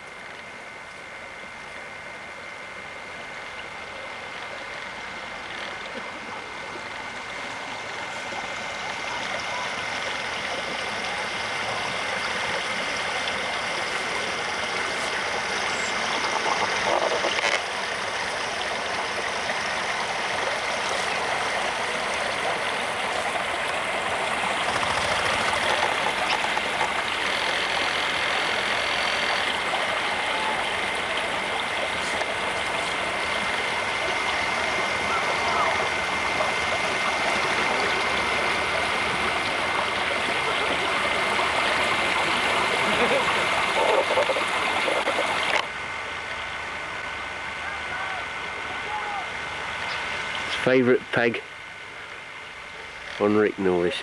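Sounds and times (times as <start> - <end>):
thin high whine: 0.0 - 54.0
running water rushing: 4.6 - 53.9.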